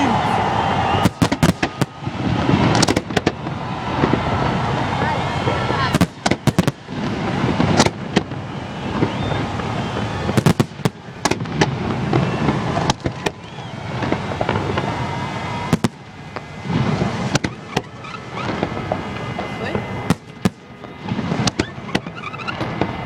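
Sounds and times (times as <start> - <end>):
fireworks bangs and crackles: 0.0 - 23.0
fireworks rumbling: 0.0 - 23.0
rising firework whistles: 0.0 - 23.0.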